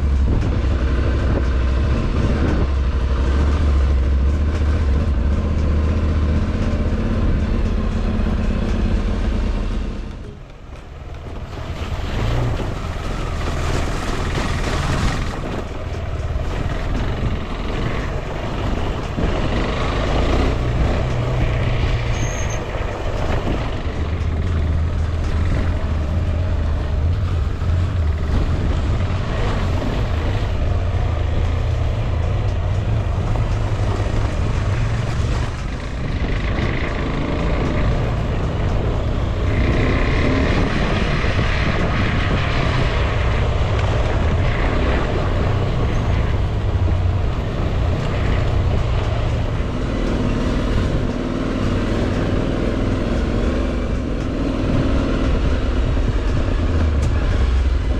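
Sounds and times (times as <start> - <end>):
motorcycle engine running: 0.0 - 57.9
road noise: 0.0 - 57.9
wind noise: 0.0 - 57.9.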